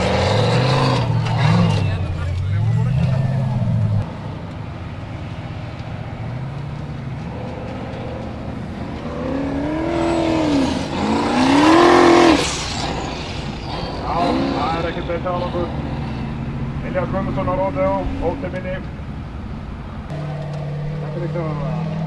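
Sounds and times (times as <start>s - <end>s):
buggy engine revving hard: 0.0s - 4.1s, 6.0s - 22.0s.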